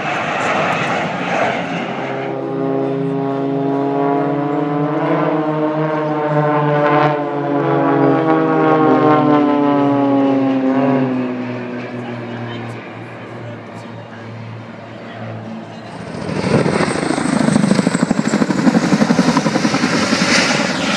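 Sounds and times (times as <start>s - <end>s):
aircraft rushing noise: 0.0s - 6.0s, 9.5s - 20.9s
aircraft engine drone: 0.0s - 20.9s.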